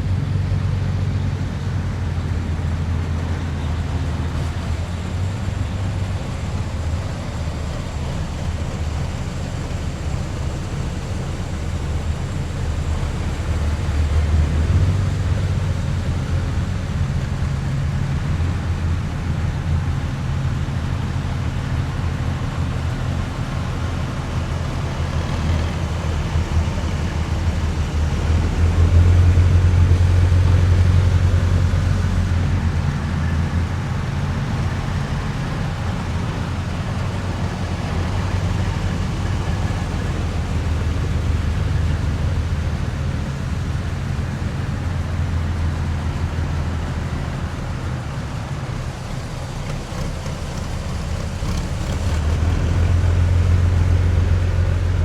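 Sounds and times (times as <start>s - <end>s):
heavy vehicle engines rumbling: 0.0s - 55.0s.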